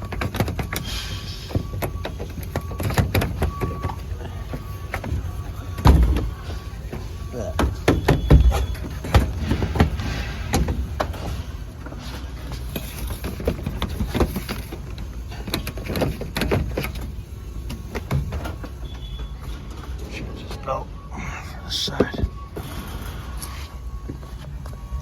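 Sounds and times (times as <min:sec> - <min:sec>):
knocks and clatter: 0:00.0 - 0:20.2.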